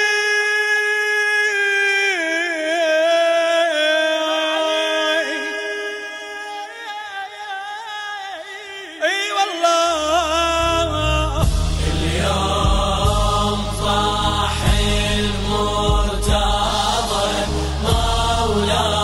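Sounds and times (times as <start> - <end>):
man singing religious lament: 0.0 - 19.0.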